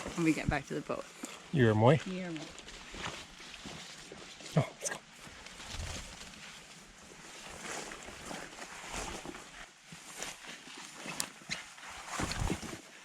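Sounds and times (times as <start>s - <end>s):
footsteps on forest trail: 0.0s - 13.0s.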